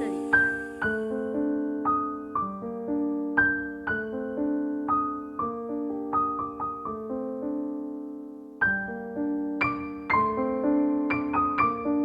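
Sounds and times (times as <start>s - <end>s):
soft solo piano: 0.0s - 12.0s.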